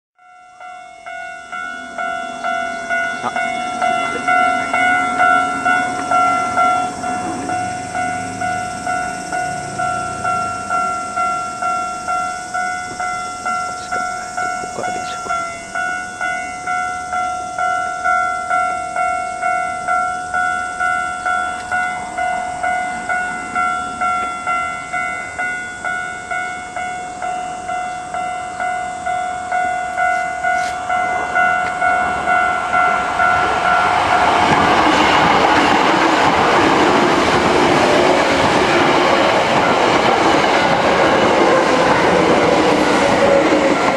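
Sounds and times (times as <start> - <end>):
electric train passing: 0.2 - 43.9
level crossing warning bell: 0.2 - 43.9.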